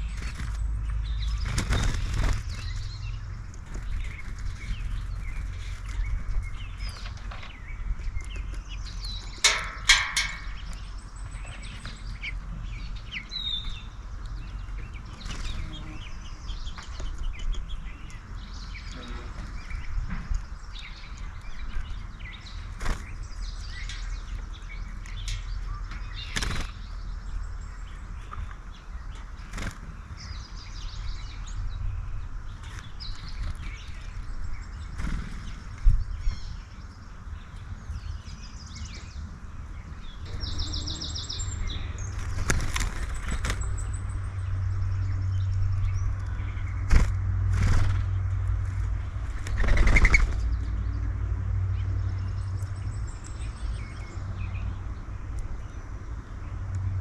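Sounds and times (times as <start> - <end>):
songbirds chirping: 0.0 - 57.0
steady low rumble: 0.0 - 57.0.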